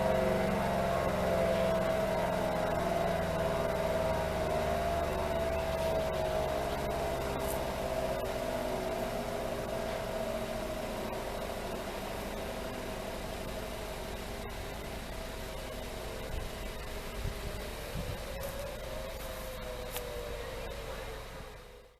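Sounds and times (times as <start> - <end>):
low steady rumble: 0.0 - 21.9
warning siren winding down: 0.0 - 21.9.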